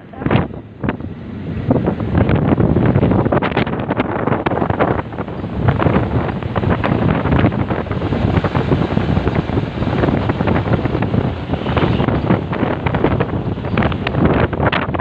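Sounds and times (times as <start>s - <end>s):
truck running and road noise: 0.0s - 15.0s
wind buffeting microphone: 0.0s - 15.0s.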